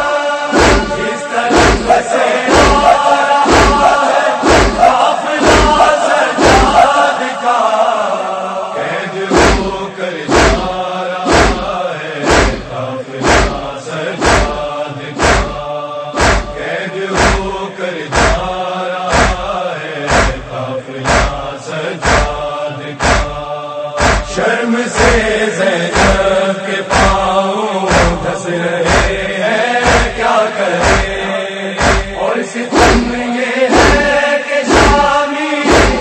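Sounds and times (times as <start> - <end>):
men chanting a lament in unison: 0.0 - 36.0
deep thumps keeping the beat: 0.6 - 6.9, 9.3 - 15.6, 16.2 - 24.4, 25.0 - 25.3, 25.9 - 31.2, 31.8 - 32.2, 32.8 - 36.0.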